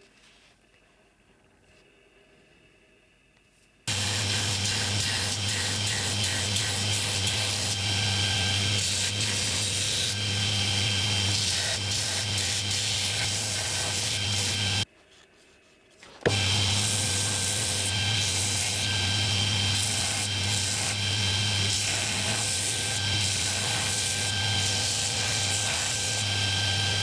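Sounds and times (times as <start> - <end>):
electric power tool running: 3.9 - 14.8, 16.3 - 27.0.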